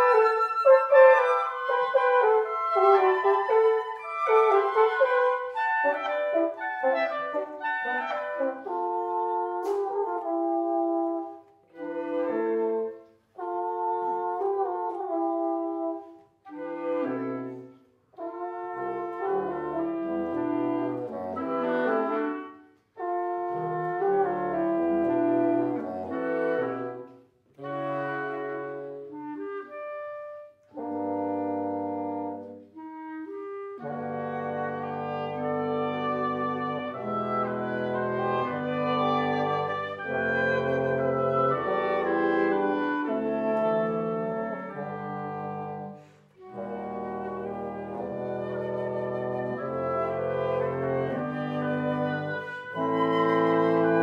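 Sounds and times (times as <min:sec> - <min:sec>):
wind quintet playing chords: 0:00.0 - 0:54.0.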